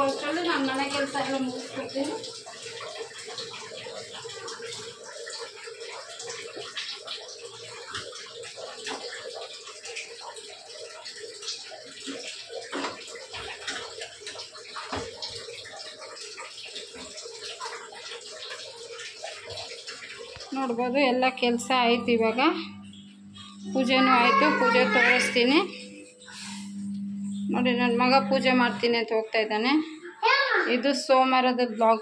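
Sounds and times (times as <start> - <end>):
water running: 0.0 - 32.0.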